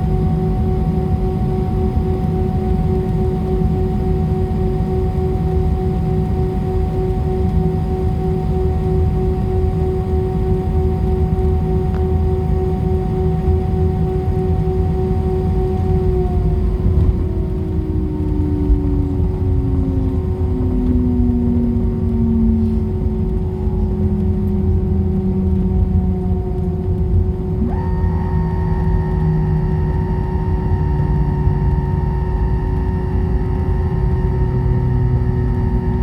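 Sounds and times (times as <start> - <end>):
high engine whine: 0.0 - 36.0
jet engine rumble and whine: 0.0 - 36.0.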